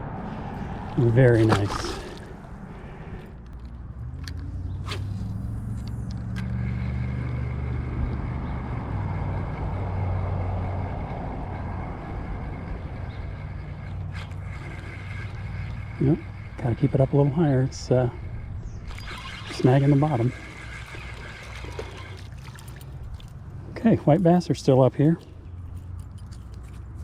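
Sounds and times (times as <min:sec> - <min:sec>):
vehicle engine passing by: 0:00.0 - 0:24.0.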